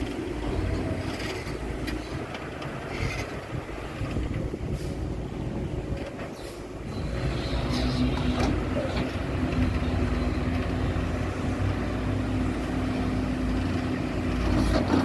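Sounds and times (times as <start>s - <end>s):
diesel truck engines rumbling: 0.0s - 15.0s.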